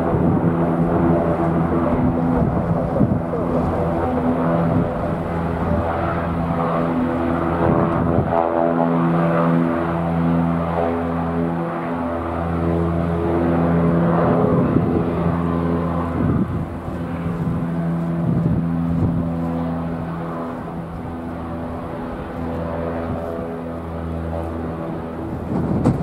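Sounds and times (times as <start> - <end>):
aircraft engines droning: 0.0 - 26.0
wind gusts on microphone: 0.0 - 26.0.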